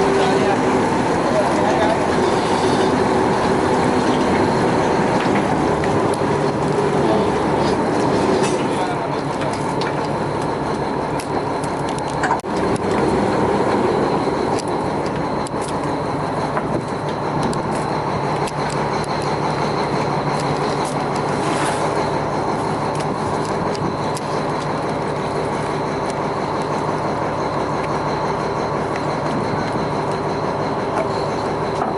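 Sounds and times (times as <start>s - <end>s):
engine humming: 0.0s - 31.9s.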